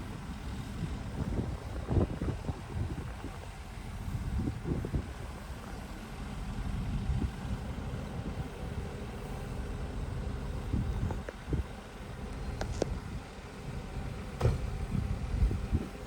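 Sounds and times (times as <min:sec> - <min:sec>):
diesel engine low rumble: 0:00.0 - 0:16.0.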